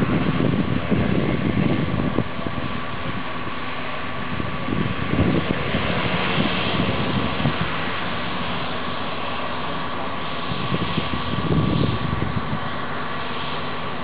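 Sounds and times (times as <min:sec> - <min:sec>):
dense rushing noise: 0:00.0 - 0:14.0
low rumbling: 0:00.0 - 0:14.0
turboprop turbine whine: 0:00.0 - 0:14.0.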